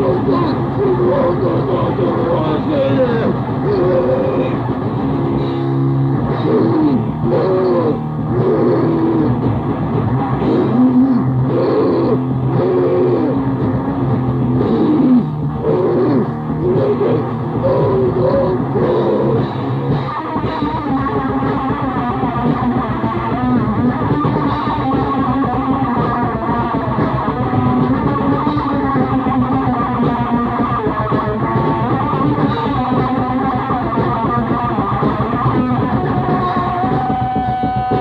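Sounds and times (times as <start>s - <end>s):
distorted guitar and bass grindcore: 0.0s - 38.0s.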